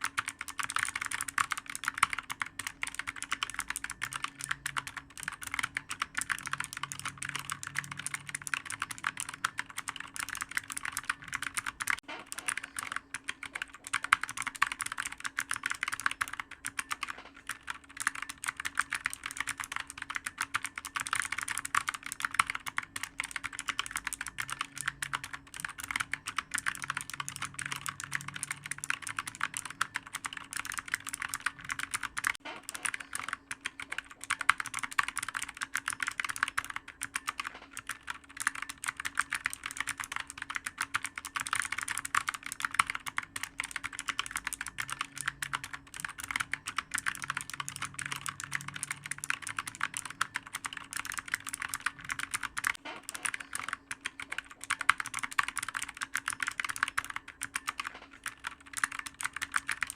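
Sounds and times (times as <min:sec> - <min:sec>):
fast typing on keyboard: 0:00.0 - 0:59.9.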